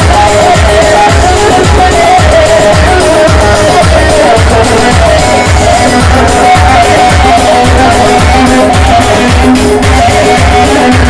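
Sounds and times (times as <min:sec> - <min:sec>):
electronic keyboard: 0:00.0 - 0:11.0
live band playing dance music: 0:00.0 - 0:11.0
steady drum beat: 0:00.0 - 0:11.0.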